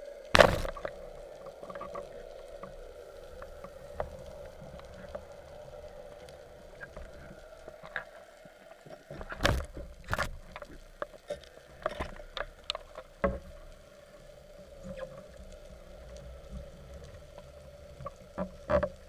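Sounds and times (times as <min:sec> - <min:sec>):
faint steady hum: 0:00.0 - 0:19.0
low underwater rumble: 0:00.0 - 0:19.0
underwater clicks and knocks: 0:00.4 - 0:08.1, 0:08.9 - 0:13.8, 0:16.4 - 0:19.0.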